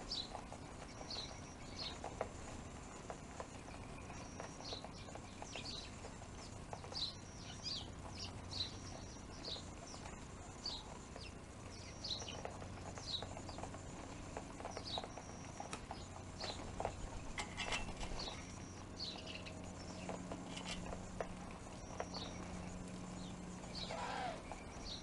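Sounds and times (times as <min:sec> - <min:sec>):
birds pecking at a feeder: 0:00.0 - 0:25.0
small birds chirping: 0:00.0 - 0:25.0.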